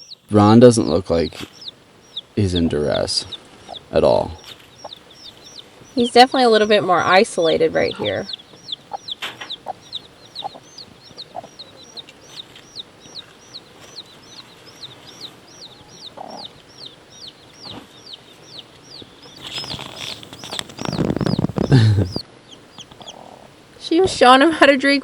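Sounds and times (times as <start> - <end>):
chick peeping: 0.0 - 25.0
hen clucking: 0.0 - 25.0.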